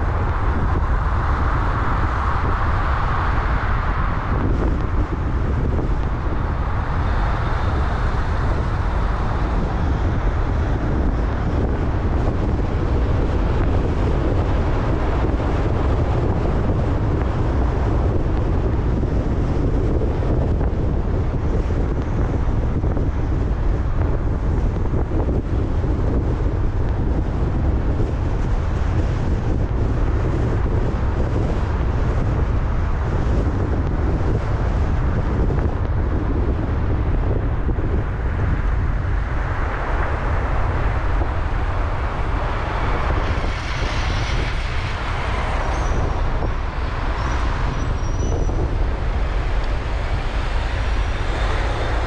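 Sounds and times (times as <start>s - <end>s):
road and traffic rumble: 0.0s - 52.0s
wind rumbling on microphone: 0.0s - 52.0s.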